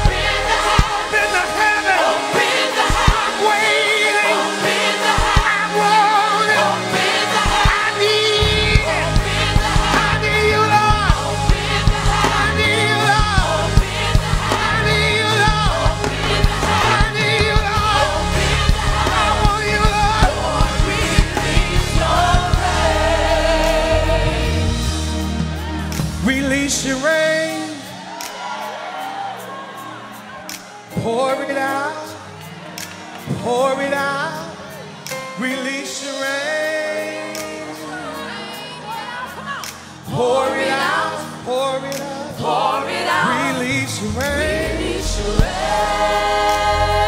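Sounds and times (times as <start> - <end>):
gospel choir with band: 0.0 - 47.0.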